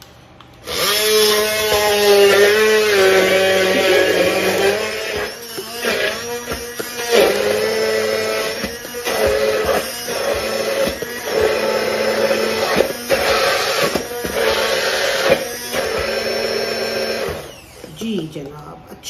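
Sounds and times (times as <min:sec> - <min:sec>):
electric hand blender running: 0:00.6 - 0:18.0.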